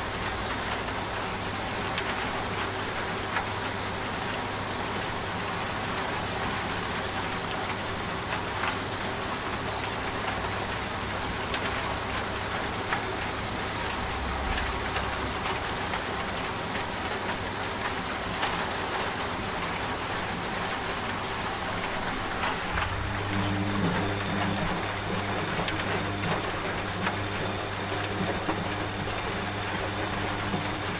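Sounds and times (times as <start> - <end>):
rain with drops tapping: 0.0 - 30.9
washing machine humming: 0.0 - 30.9.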